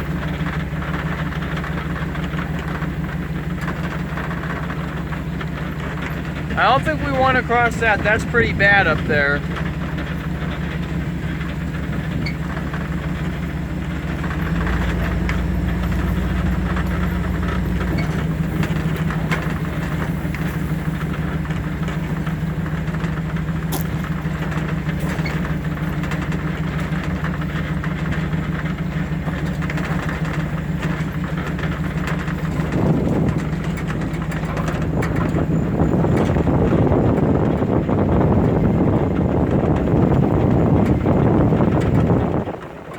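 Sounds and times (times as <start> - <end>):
car engine revving: 5.5 - 42.6.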